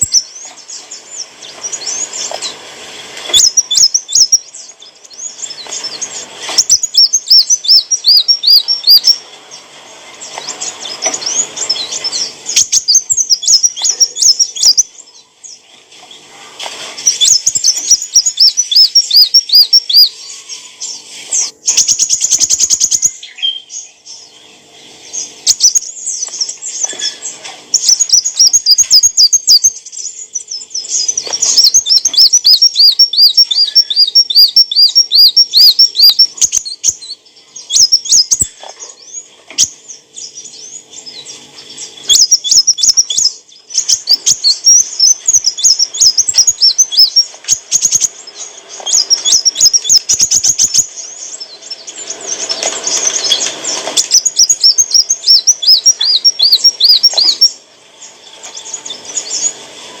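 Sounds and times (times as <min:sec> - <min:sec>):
sunbird chirping: 0:00.0 - 1:00.0.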